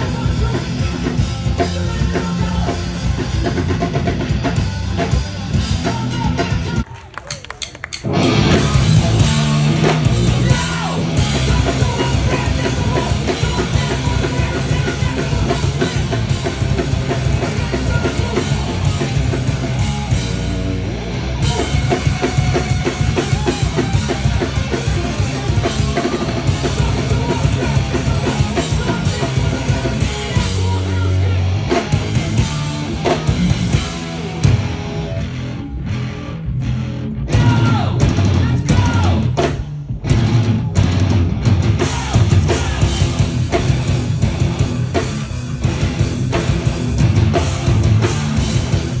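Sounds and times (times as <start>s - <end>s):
pounding drum kit: 0.0s - 35.4s, 37.2s - 49.0s
hardcore band playing: 0.0s - 49.0s.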